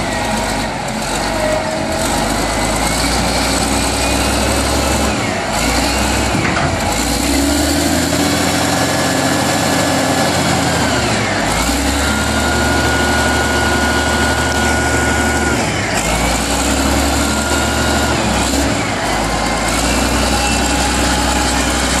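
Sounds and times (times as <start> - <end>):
wheel loader diesel engine: 0.0 - 22.0.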